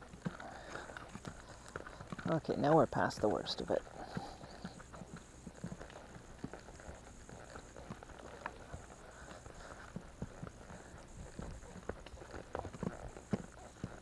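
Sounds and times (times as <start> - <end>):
soft hoofbeats on dirt: 0.0 - 14.0.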